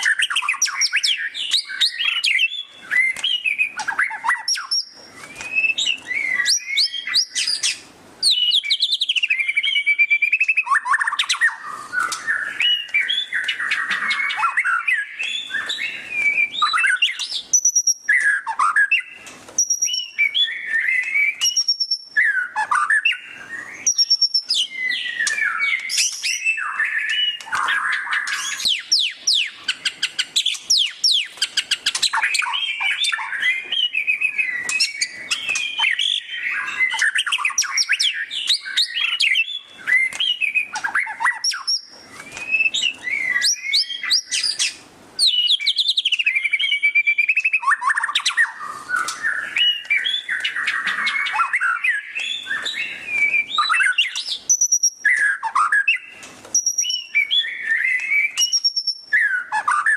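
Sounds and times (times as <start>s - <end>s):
songbird whistling and trilling: 0.0s - 59.9s.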